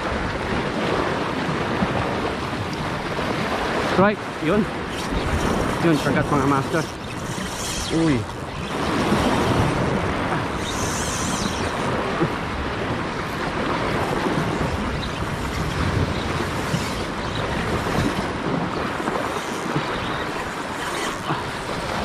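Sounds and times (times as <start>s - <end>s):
sea waves and surf: 0.0s - 22.0s
wind buffeting microphone: 0.0s - 22.0s.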